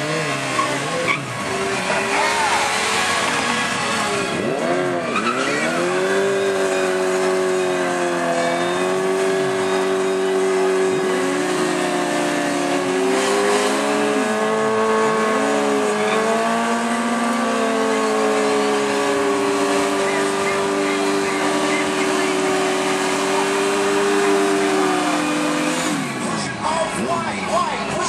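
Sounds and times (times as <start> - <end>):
motorcycle engines revving high: 0.0 - 28.0.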